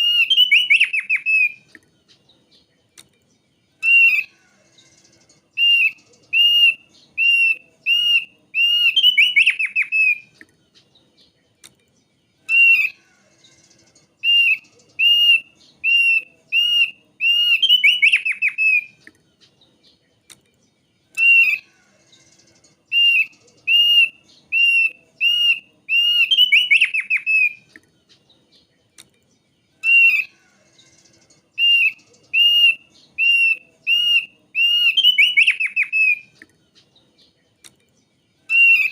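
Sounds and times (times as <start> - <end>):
bird singing whistled notes and trill: 0.0 - 38.9.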